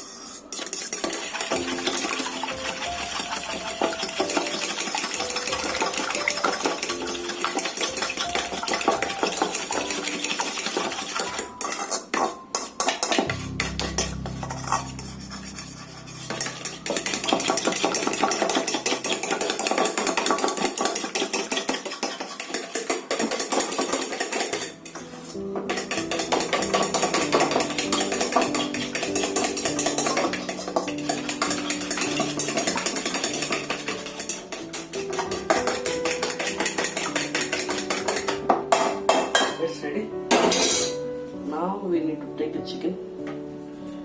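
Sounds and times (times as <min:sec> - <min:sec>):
utensil beating eggs in bowl: 0:00.0 - 0:39.5.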